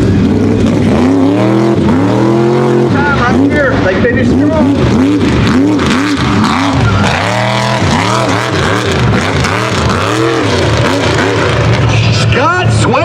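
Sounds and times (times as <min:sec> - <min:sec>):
truck engine revving hard: 0:00.0 - 0:12.4.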